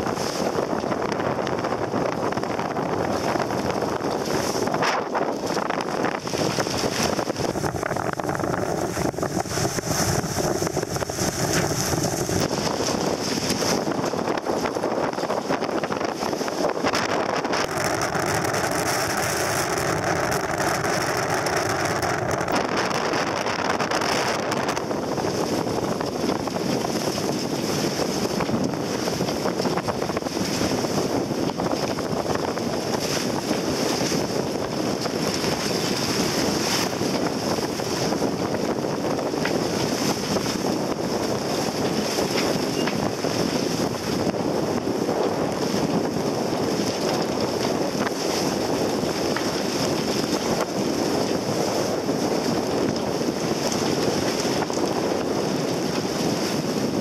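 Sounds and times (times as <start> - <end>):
rough sea water splashing: 0.0 - 57.0
wind buffeting microphone: 0.0 - 57.0.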